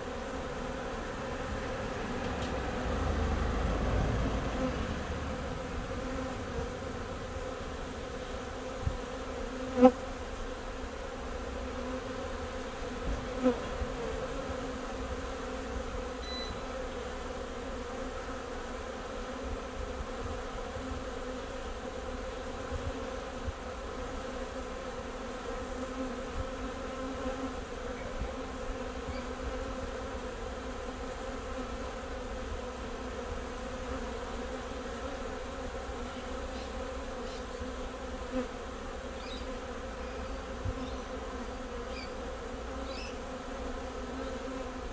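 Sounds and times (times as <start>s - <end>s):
honey bees buzzing: 0.0s - 44.9s.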